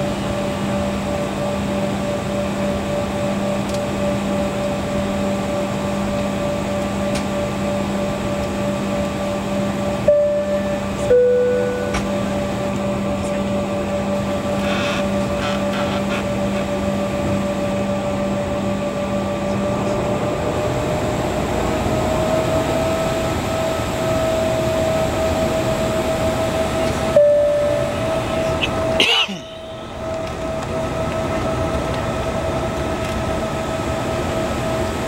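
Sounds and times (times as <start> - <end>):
jet engine rumble: 0.0 - 35.0
jet engine whine: 0.0 - 35.0
low hum: 0.0 - 35.0.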